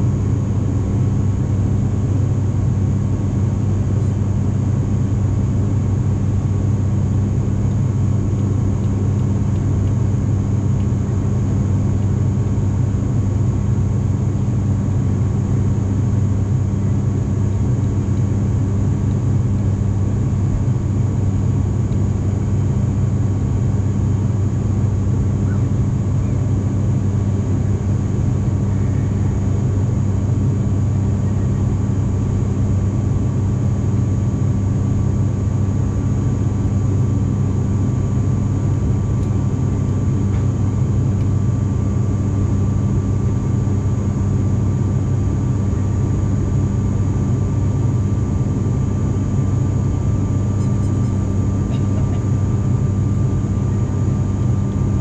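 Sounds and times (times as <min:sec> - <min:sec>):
turboprop cabin drone: 0:00.0 - 0:55.0.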